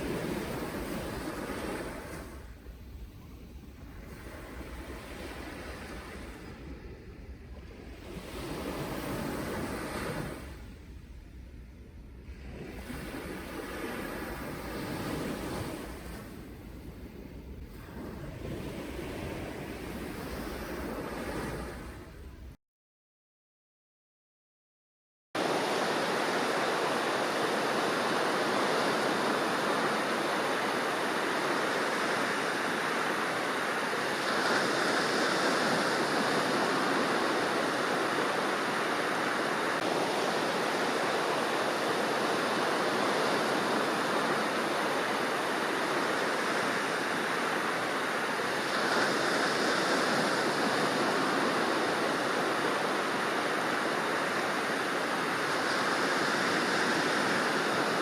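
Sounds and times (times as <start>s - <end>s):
ocean waves surf: 0.0s - 22.6s, 25.4s - 58.0s.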